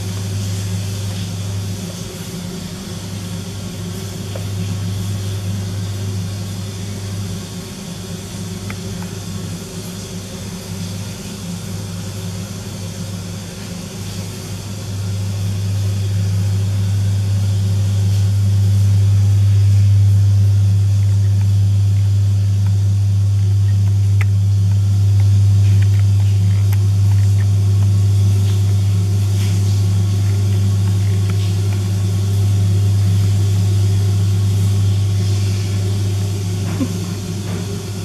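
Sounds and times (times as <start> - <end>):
aquarium pump humming: 0.0 - 38.0.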